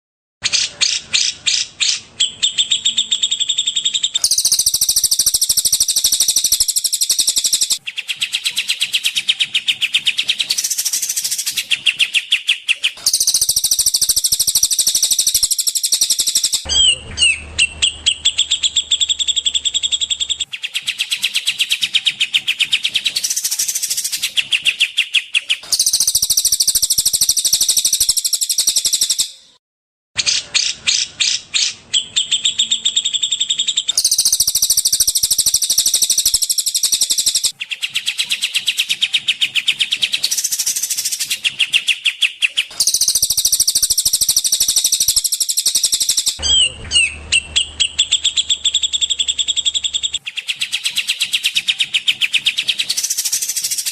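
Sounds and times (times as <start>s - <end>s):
songbirds trilling and chirping: 0.4s - 29.4s, 30.3s - 53.9s.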